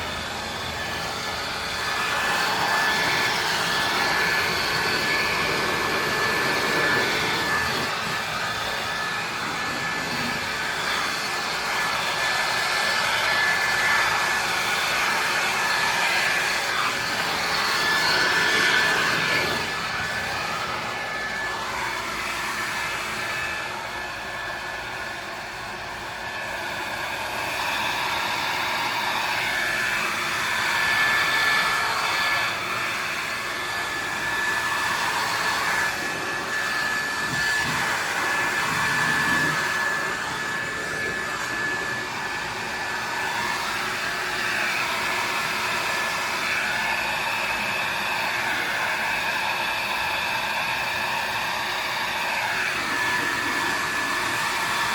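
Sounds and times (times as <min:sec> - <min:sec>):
pressure washer whining: 0:00.0 - 0:54.9.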